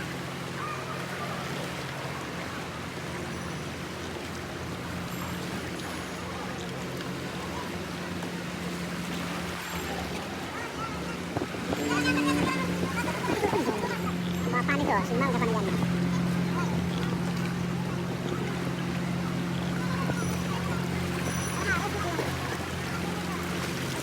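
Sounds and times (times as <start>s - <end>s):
engine running: 0.0s - 24.0s
wind: 0.0s - 24.0s.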